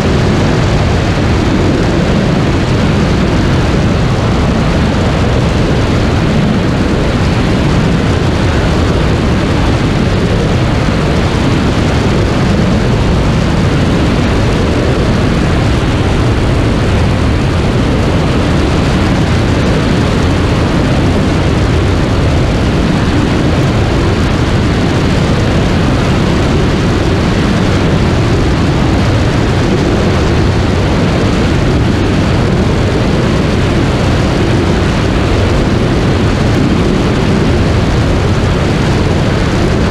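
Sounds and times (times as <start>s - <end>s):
aircraft propeller and engine noise: 0.0s - 39.9s
loud wind rush over microphone: 0.0s - 39.9s.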